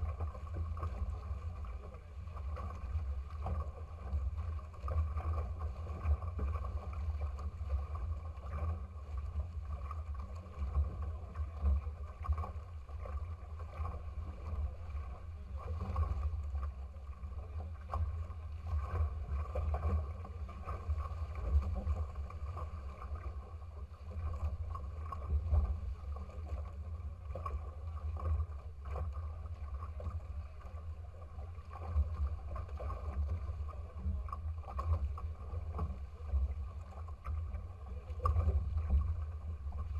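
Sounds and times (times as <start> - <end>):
water rushing past boat hulls: 0.0 - 39.9.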